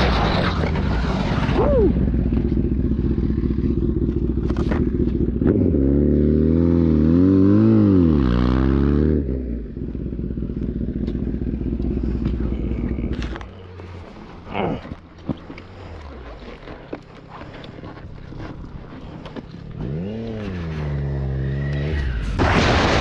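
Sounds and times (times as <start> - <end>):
motorcycle engine idling and revving: 0.0 - 22.5.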